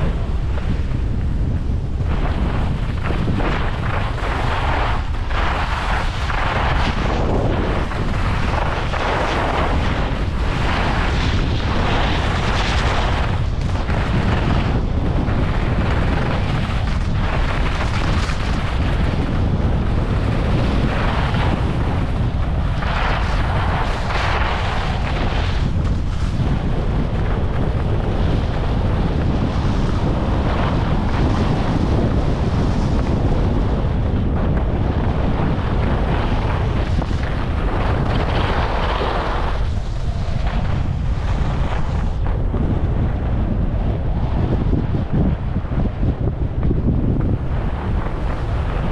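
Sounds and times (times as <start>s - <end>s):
wind buffeting microphone: 0.0s - 48.9s
skis scraping snow: 0.1s - 42.4s.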